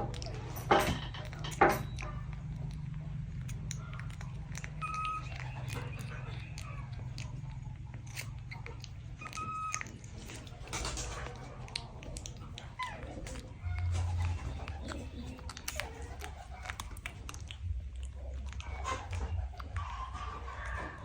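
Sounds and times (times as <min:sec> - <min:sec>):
small animal chewing and crunching: 0:00.0 - 0:21.0
steady low hum: 0:00.0 - 0:21.0.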